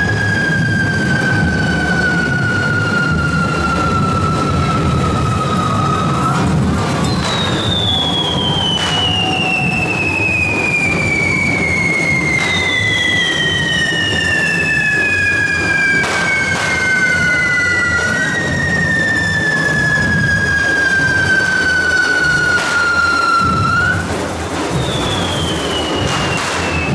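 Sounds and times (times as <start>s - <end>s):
firework bangs: 0.0s - 26.9s
whistling fireworks: 0.0s - 26.9s.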